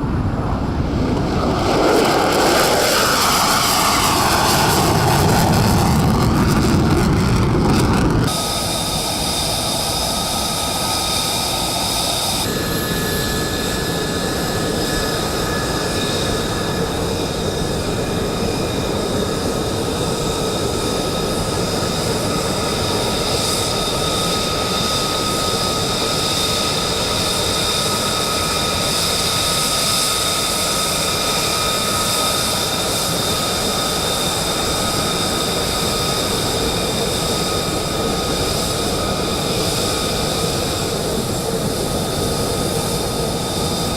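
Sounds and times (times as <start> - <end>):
jet engine noise: 0.0 - 43.9.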